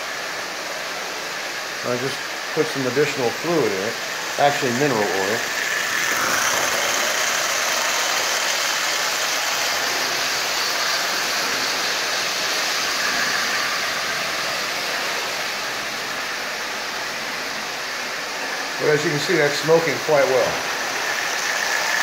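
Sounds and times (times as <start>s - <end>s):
toy train whirring on track: 0.0s - 22.0s.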